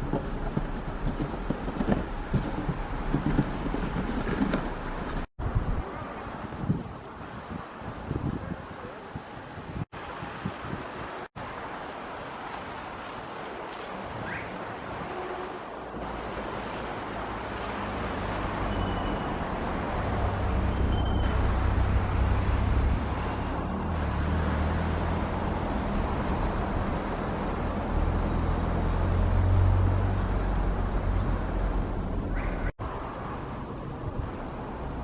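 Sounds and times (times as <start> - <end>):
vehicles passing with engine rumble: 0.0 - 8.0, 9.8 - 35.0
road traffic noise: 0.0 - 35.0.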